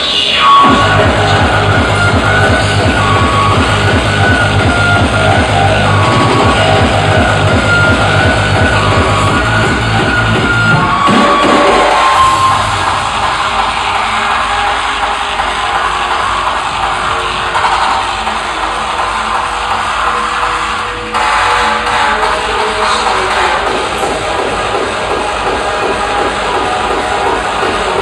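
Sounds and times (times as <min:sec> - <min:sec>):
electronic music with heavy bass: 0:00.0 - 0:28.0.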